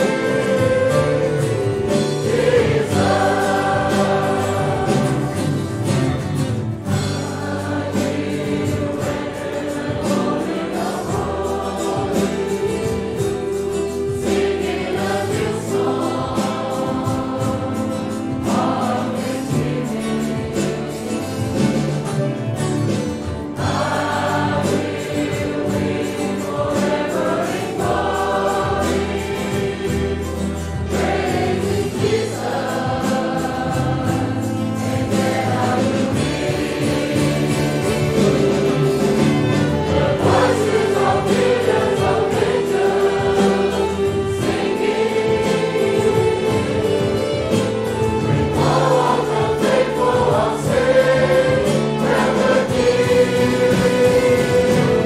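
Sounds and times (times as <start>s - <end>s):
acoustic guitar: 0.0s - 55.0s
choir singing a hymn: 0.0s - 55.0s
keyboard: 0.0s - 55.0s
violin: 0.0s - 55.0s.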